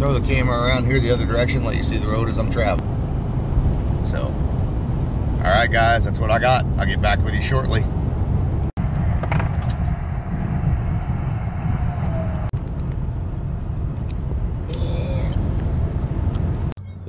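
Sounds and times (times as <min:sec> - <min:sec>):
road noise inside vehicle: 0:00.0 - 0:17.0.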